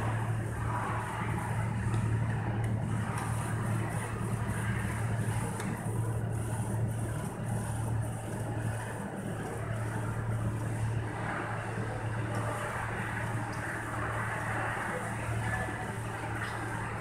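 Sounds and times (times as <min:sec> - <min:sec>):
printer low hum: 0:00.0 - 0:17.0.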